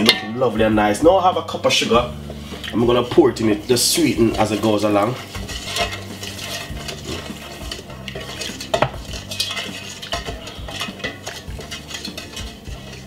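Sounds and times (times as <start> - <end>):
wooden spoon scraping metal bowl: 1.6 - 13.0.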